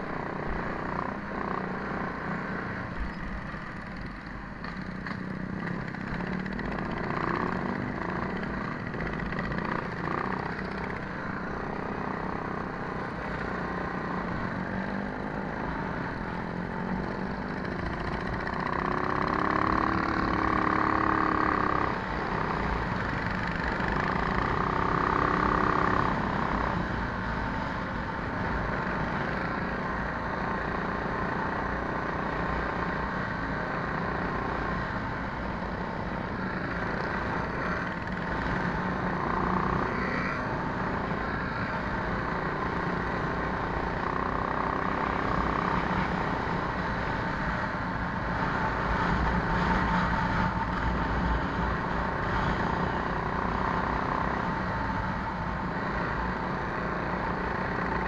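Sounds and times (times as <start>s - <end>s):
small motorbike engine running: 3.1s - 15.5s, 16.3s - 27.4s, 28.3s - 58.0s.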